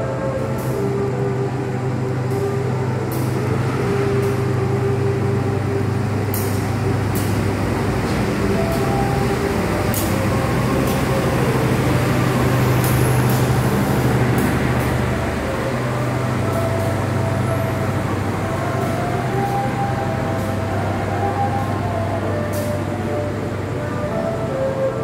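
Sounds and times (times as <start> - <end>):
train diesel engine idling: 0.0 - 25.0.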